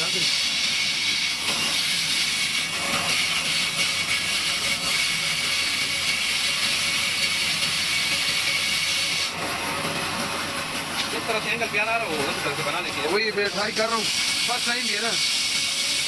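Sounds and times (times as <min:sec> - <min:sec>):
band saw cutting cardboard: 0:00.0 - 0:16.0.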